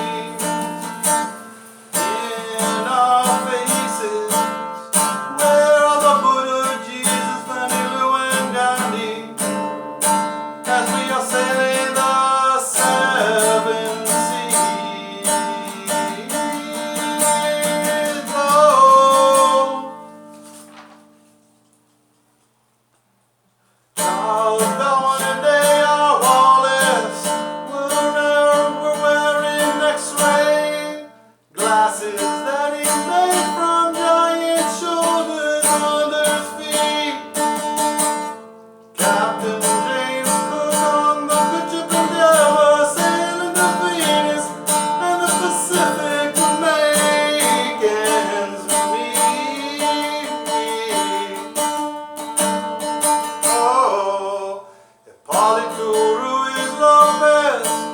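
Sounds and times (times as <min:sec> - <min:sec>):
acoustic guitar music: 0:00.0 - 0:23.0, 0:23.6 - 0:57.9.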